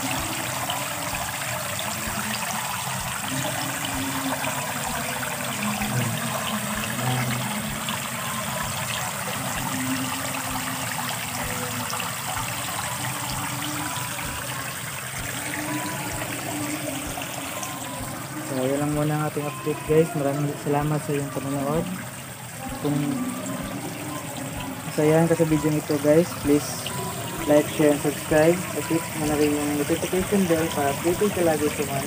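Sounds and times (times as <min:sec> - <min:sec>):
hose water splashing: 0:00.0 - 0:32.0.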